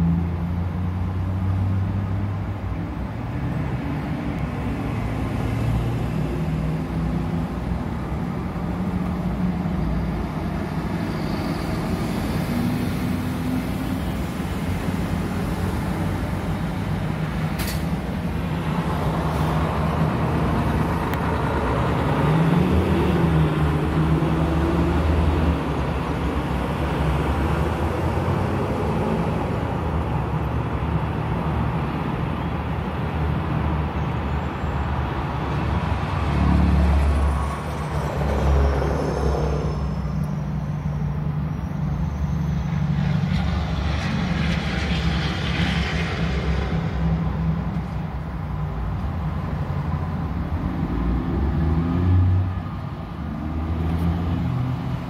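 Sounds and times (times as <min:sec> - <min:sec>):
passing truck engines: 0:00.0 - 0:55.0.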